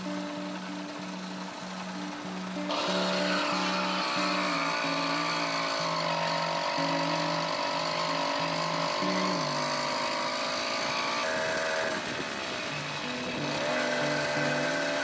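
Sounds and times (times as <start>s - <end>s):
two-stroke bicycle engine running: 0.0s - 15.0s.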